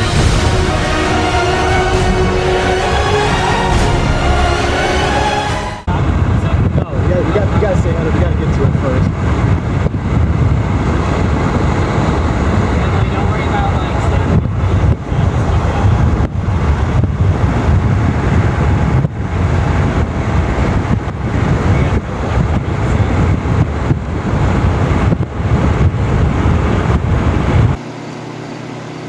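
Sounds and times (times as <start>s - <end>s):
gusty wind buffeting microphone: 0.0s - 27.8s
steady hum: 0.0s - 29.0s.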